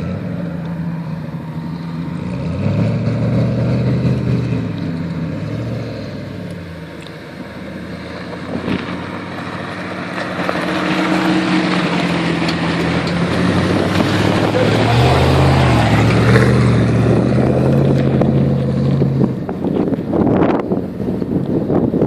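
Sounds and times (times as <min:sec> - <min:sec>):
vehicle engine revving on sand: 0:00.0 - 0:22.0.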